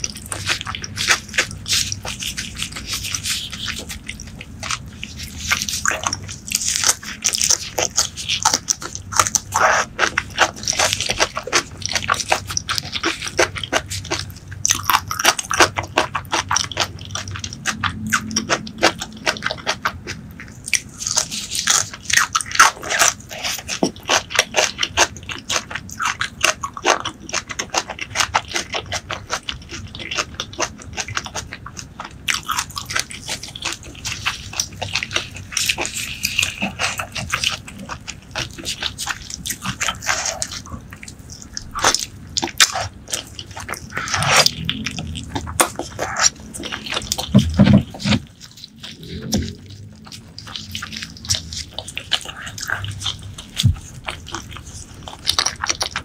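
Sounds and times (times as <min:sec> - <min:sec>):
crunching and chewing vegetable stalks: 0:00.0 - 0:56.0.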